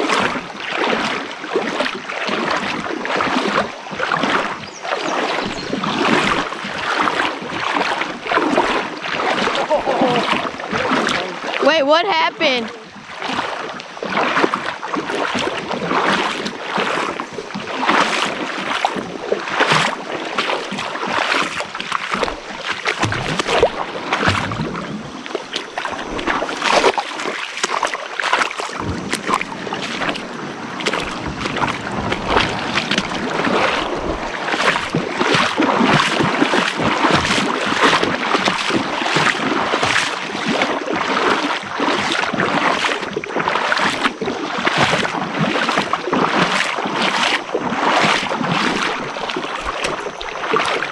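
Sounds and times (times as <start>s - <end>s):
kayak splashing river water: 0.0s - 50.9s
steady rush of water: 0.0s - 50.9s.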